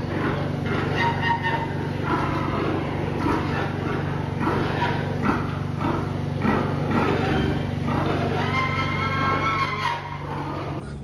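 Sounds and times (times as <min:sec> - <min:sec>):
low mechanical hum: 0:00.0 - 0:11.0
pigs grunting: 0:00.0 - 0:11.0.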